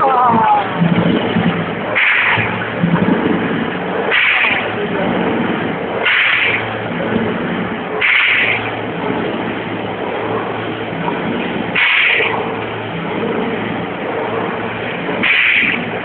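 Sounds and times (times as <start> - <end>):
industrial machinery humming: 0.0 - 16.0.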